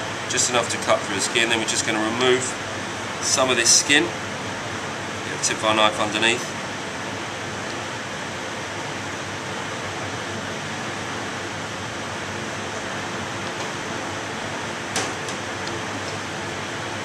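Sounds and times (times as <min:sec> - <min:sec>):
ventilation hiss: 0:00.0 - 0:17.0.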